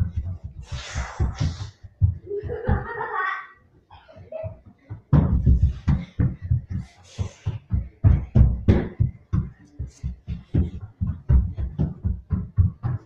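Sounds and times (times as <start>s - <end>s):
running footsteps thudding: 0.0s - 3.2s, 4.4s - 13.0s.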